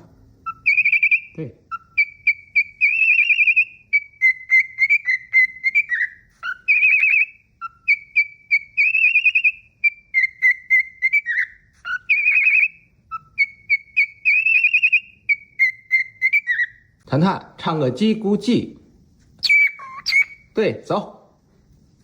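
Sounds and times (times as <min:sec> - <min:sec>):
cockatiel whistling a tune: 0:00.4 - 0:16.9, 0:19.4 - 0:20.6.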